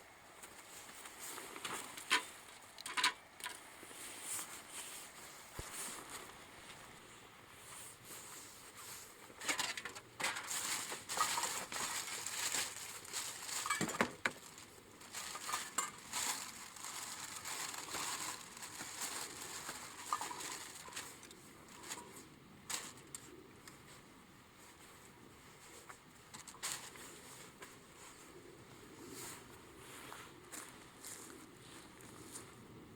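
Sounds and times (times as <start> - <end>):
crunching and crackling handling: 0.4 - 32.5.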